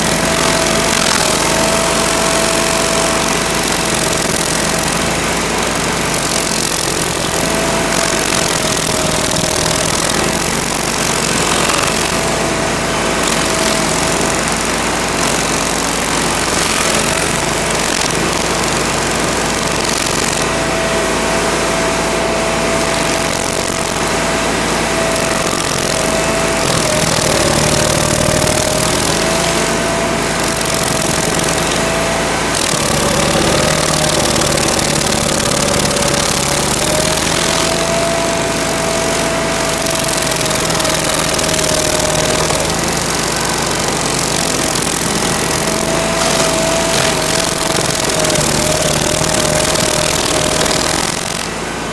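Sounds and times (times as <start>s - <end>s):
cutting wheel grinding wood: 0.0s - 51.9s
stump grinder engine drone: 0.0s - 51.9s.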